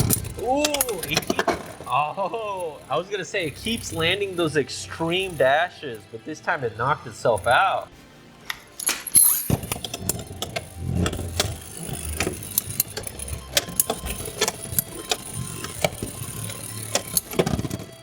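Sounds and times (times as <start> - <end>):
spinning tops launching: 0.0 - 6.1, 6.8 - 18.0
spinning tops clashing and rattling: 0.0 - 6.2, 6.9 - 7.9, 8.5 - 18.0.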